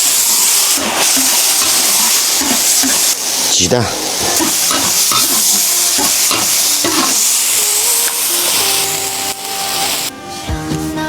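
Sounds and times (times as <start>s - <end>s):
eggs sizzling in hot oil: 0.0s - 10.1s
background music: 0.1s - 11.0s.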